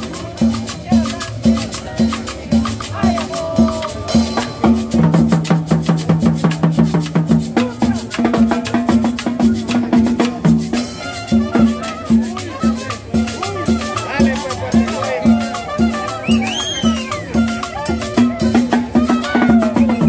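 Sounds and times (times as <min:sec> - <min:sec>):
drums and percussion: 0:00.0 - 0:20.0.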